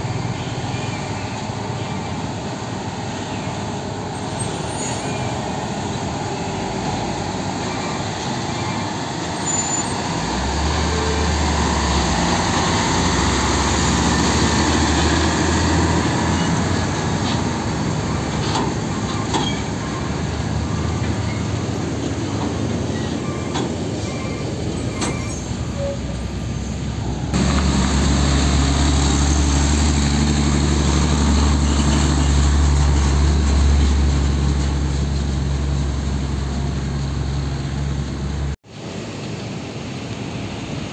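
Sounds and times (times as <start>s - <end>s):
diesel truck engines at low revs: 0.0s - 25.0s, 26.1s - 38.6s
deep truck engine: 0.0s - 38.6s.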